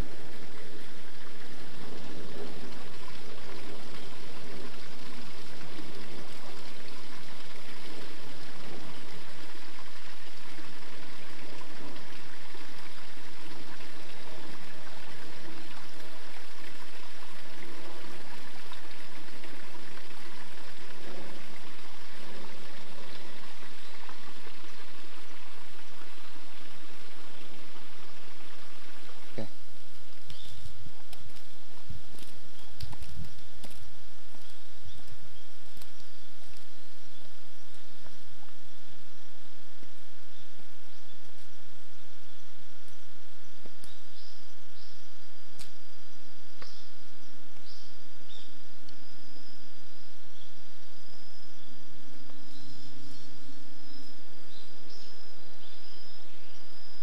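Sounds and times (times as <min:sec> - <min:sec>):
running water trickling: 0:00.0 - 0:50.0.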